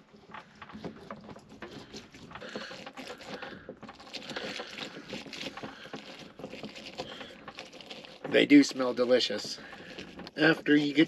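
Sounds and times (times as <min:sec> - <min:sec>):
citrus squeezed on plastic reamer: 0:00.8 - 0:11.0.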